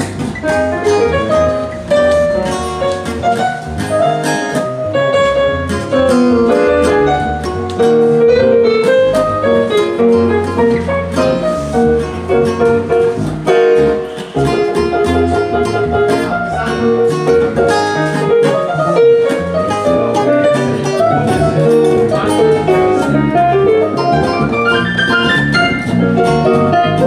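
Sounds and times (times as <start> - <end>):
keyboard playing quick notes and chords: 0.0 - 27.0.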